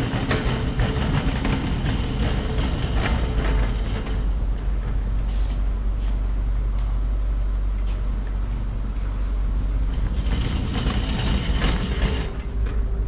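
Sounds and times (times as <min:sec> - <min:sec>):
cart rolling on concrete: 0:00.0 - 0:06.8, 0:08.9 - 0:13.0.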